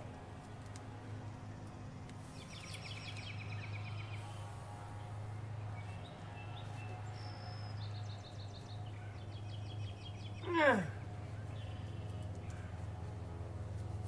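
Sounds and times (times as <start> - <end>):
steady low hum: 0.0 - 14.0
small birds chirping trills: 0.4 - 14.0.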